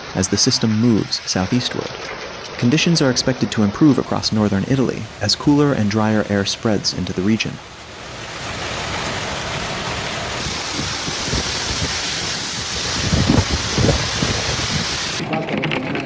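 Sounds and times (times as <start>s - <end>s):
low thunder rumbles: 0.0s - 15.2s
heavy rain pouring: 0.0s - 16.0s.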